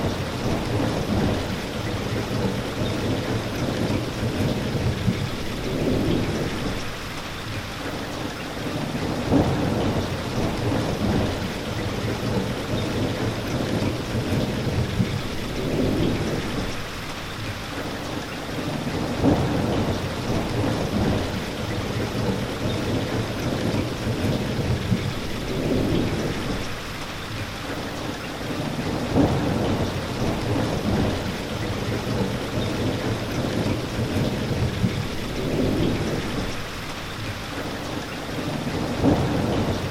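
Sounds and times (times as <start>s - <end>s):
thunder rumbles: 0.0s - 7.0s, 9.0s - 17.0s, 18.9s - 26.9s, 28.8s - 36.9s, 38.4s - 39.9s
heavy rain: 0.0s - 39.9s.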